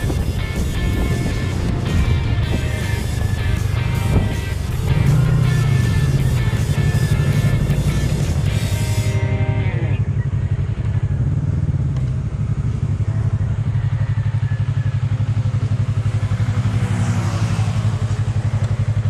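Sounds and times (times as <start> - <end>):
motorcycle engine idling: 0.0 - 17.0, 17.8 - 19.0
motorcycle passing by: 0.0 - 19.0.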